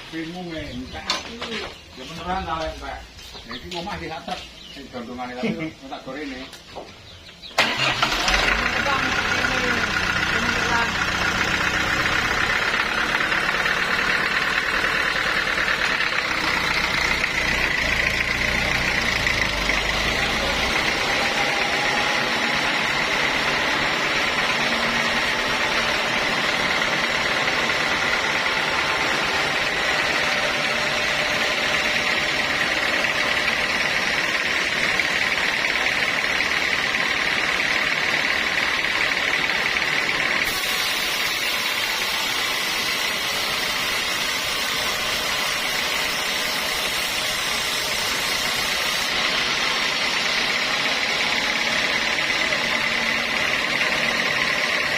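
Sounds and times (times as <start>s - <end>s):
saw whining: 7.6s - 54.9s.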